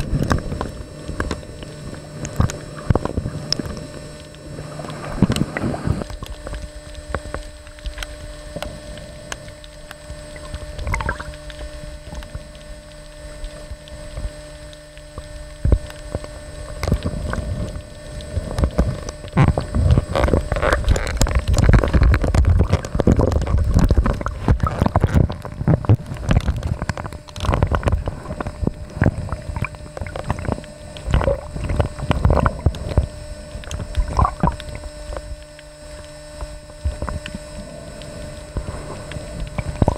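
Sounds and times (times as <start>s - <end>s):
faint steady hum: 0.0s - 39.9s
sea water sloshing and bubbling: 0.0s - 39.9s.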